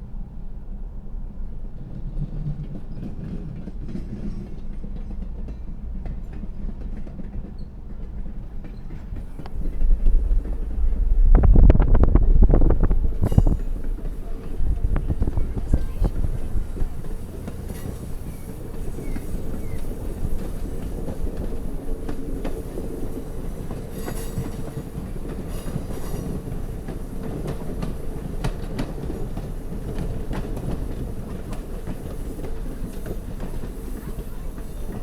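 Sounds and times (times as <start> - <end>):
train running on rails: 0.0 - 35.0
wheels clicking over track: 6.0 - 35.0.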